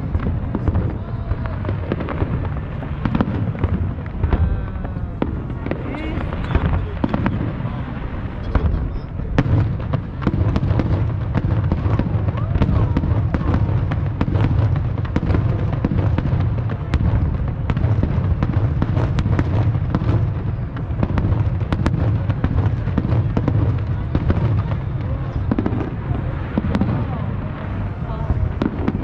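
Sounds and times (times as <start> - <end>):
fireworks bangs and crackles: 0.0 - 29.0
low rumble: 0.0 - 29.0.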